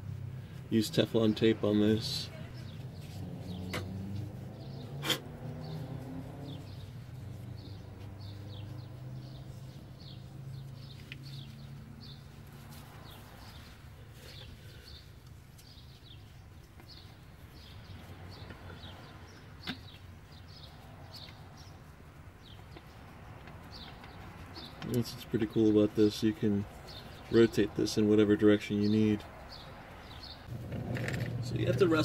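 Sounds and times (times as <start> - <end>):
small birds chirping: 0.4 - 32.0.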